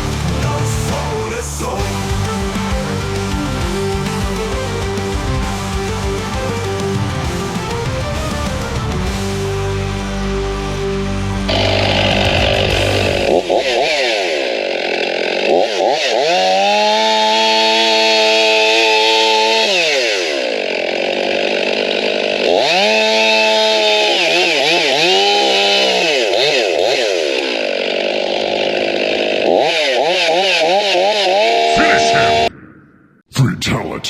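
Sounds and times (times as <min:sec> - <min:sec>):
chainsaw revving: 0:00.0 - 0:32.5.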